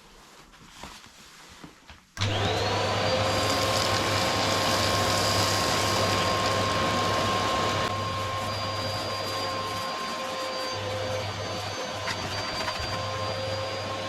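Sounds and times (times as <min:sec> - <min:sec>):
vacuum cleaner motor whine: 0:02.2 - 0:14.0.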